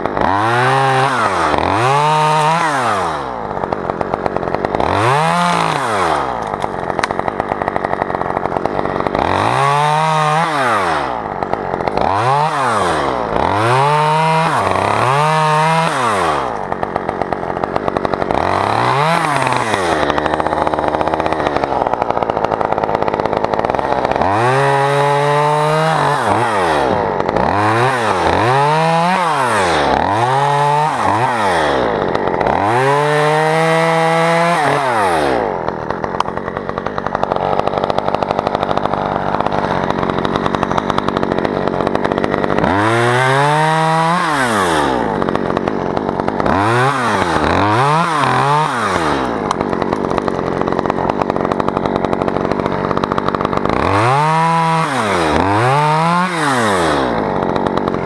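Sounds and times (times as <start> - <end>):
chainsaw cutting wood: 0.0 - 58.0
chainsaw revving: 0.0 - 58.0.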